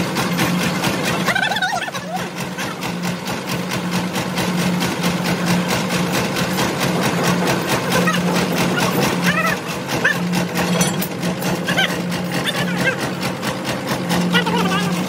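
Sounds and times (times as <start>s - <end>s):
engine running with clatter: 0.0s - 15.0s.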